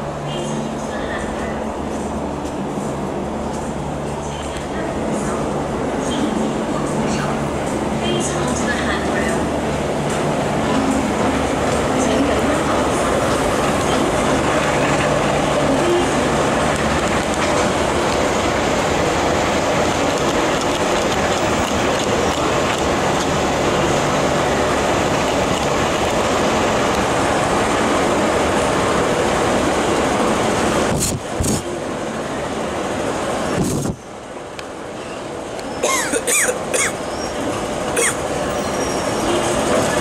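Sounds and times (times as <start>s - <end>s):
metro train rumbling: 0.0s - 40.0s.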